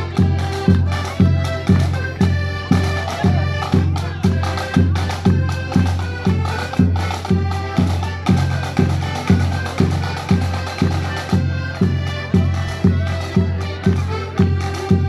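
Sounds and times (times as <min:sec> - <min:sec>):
accordion band playing a march: 0:00.0 - 0:15.0
low drum beat: 0:00.0 - 0:15.0.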